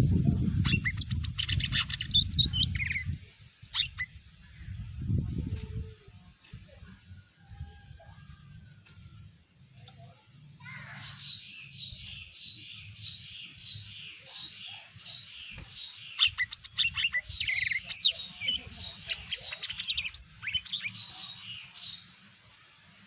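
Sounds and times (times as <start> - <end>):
bird chirping and singing: 0.0 - 7.0, 9.6 - 22.2.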